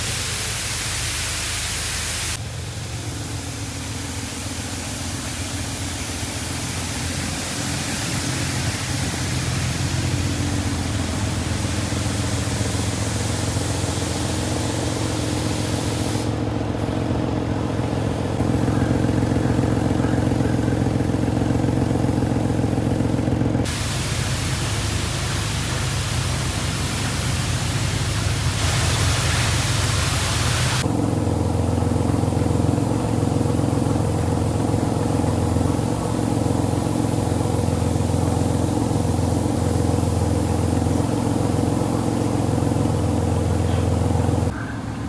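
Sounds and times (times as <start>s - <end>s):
loud hiss: 0.0s - 16.4s, 23.7s - 30.9s, 31.5s - 44.6s
car engine running: 2.4s - 45.0s.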